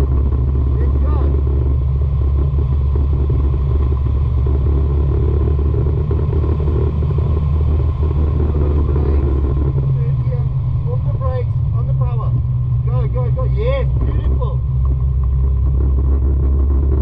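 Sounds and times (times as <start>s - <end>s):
car engine running: 0.0s - 17.0s
road and wind noise: 0.0s - 17.0s.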